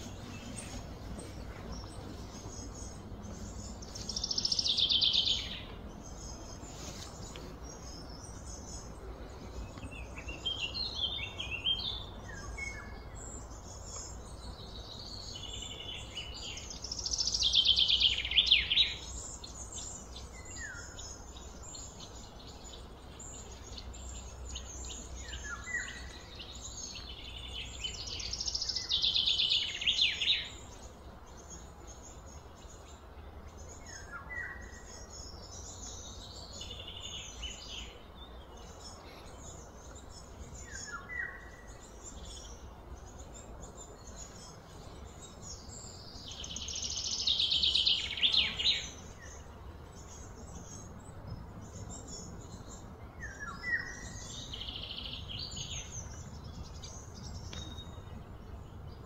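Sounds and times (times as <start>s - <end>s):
songbird trilling and chirping: 0.0s - 59.0s.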